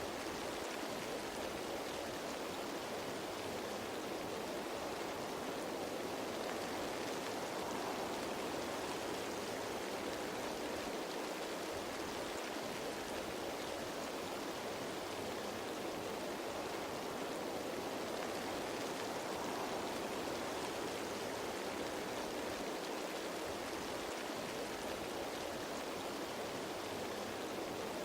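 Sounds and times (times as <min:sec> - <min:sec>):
rain pattering on leaves: 0:00.0 - 0:28.0.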